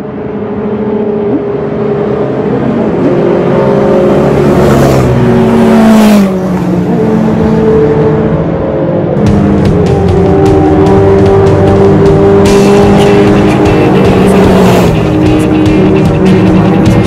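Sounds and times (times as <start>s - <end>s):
motorcycle passing by: 2.1s - 8.5s, 9.2s - 17.0s.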